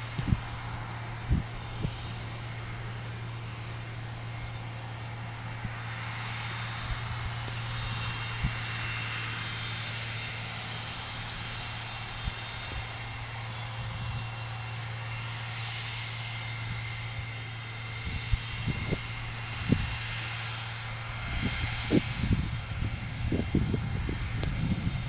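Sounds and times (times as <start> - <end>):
sprayer diesel engine running: 0.0 - 25.0.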